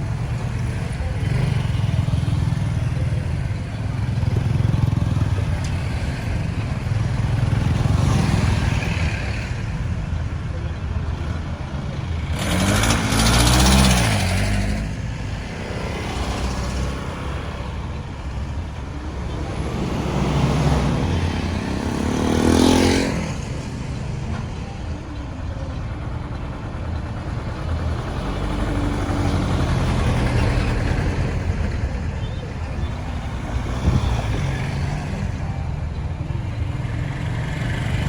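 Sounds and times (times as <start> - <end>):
low rumble of traffic: 0.0 - 38.0
vehicles passing close by: 0.0 - 38.0.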